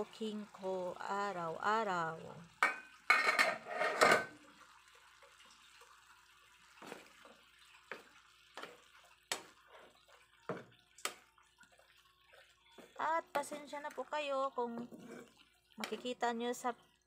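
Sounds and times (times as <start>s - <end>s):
clams simmering with bubbling pops: 0.1s - 3.3s, 4.2s - 17.0s.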